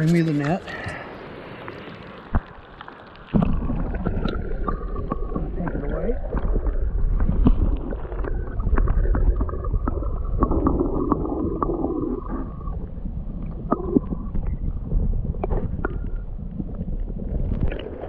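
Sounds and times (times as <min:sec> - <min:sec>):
river water rumbling: 0:00.0 - 0:18.0.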